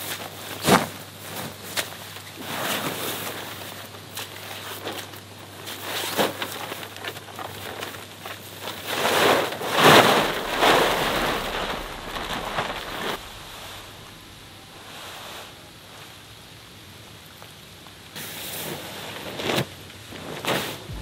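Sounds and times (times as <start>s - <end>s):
plastic tarp crinkling and flapping: 0.0s - 15.2s, 18.2s - 21.0s.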